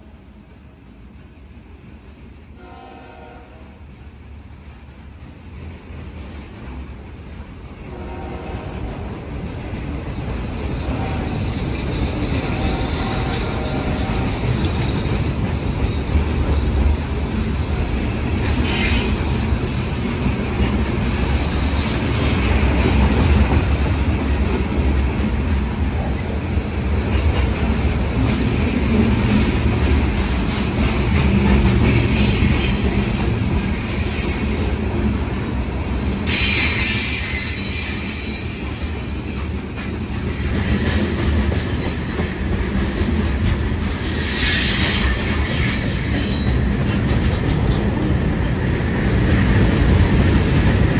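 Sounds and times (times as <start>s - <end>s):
freight train rumbling past: 0.0s - 50.9s
train wheels clattering on rails: 0.0s - 50.9s.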